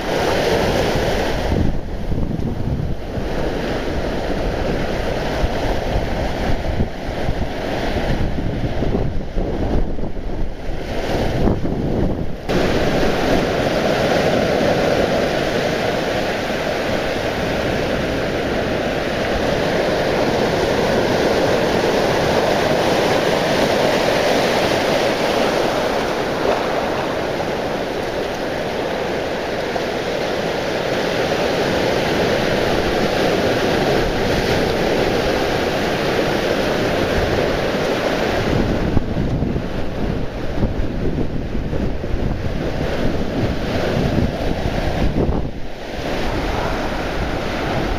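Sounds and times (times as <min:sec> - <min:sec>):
sea surf washing on beach: 0:00.0 - 0:47.9
wind buffeting microphone: 0:00.0 - 0:47.9.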